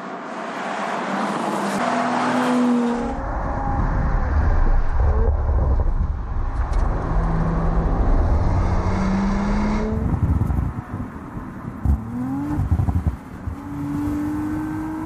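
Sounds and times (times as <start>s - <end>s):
car engine rumbling under load: 0.0s - 15.0s.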